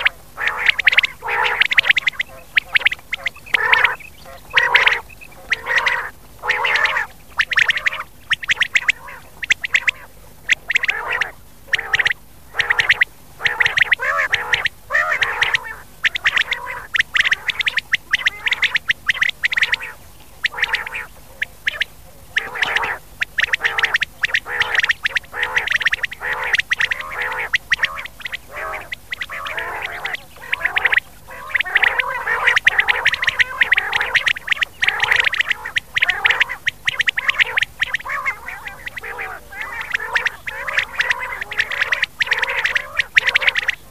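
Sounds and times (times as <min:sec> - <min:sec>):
quail calling rasping notes: 0:00.0 - 0:43.9.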